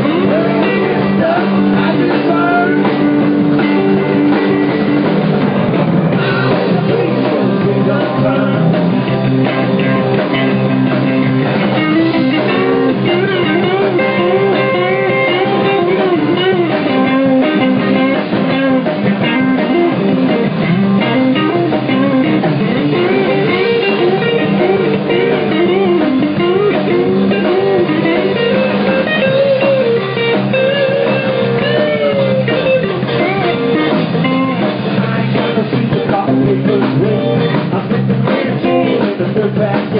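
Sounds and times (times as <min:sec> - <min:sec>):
rock band playing: 0:00.0 - 0:39.9
wavering guitar melody: 0:00.0 - 0:39.9.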